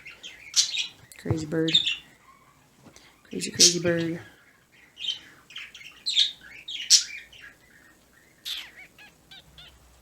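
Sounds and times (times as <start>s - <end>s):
birds squawking: 0.0s - 10.0s.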